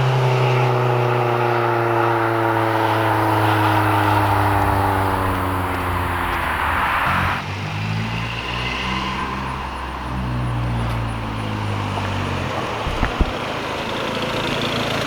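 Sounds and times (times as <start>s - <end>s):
car engine running at low revs: 0.0s - 7.5s, 9.5s - 15.0s.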